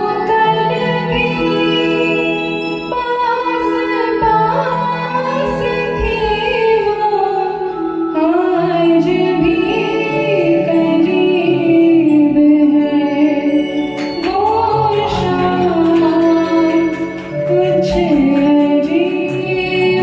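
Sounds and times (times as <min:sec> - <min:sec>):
instrumental accompaniment: 0:00.0 - 0:20.0
woman singing slow song: 0:00.0 - 0:20.0.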